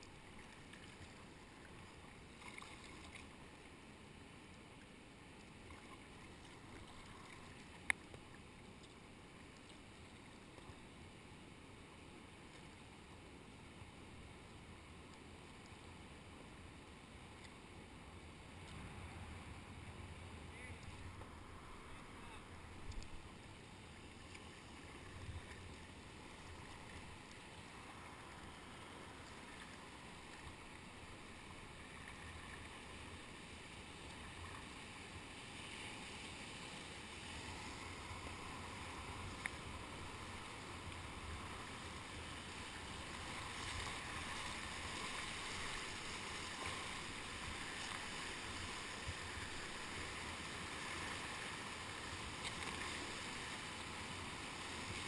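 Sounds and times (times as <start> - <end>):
water swishing around kayak: 0.0 - 55.0.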